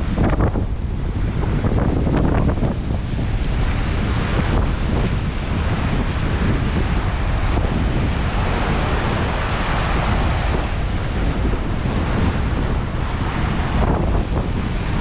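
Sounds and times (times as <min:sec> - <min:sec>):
wind buffeting microphone: 0:00.0 - 0:15.0
small waves breaking on sand: 0:01.0 - 0:15.0.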